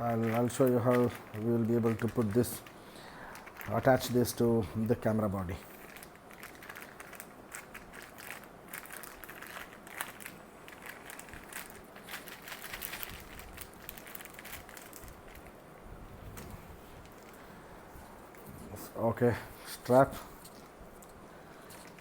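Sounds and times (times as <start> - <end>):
plastic packaging crinkling: 0.0 - 18.6, 19.9 - 22.0.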